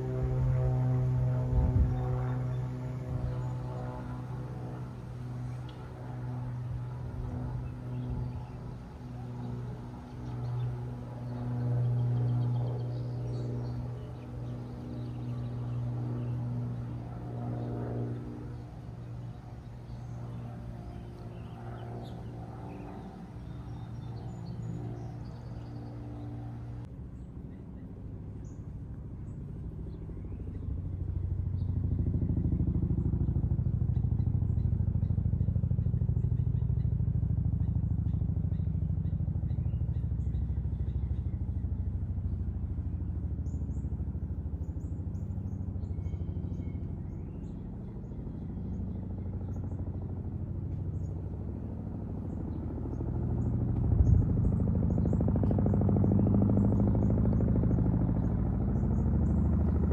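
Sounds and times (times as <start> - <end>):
jet airliner engine drone: 0.0 - 59.9.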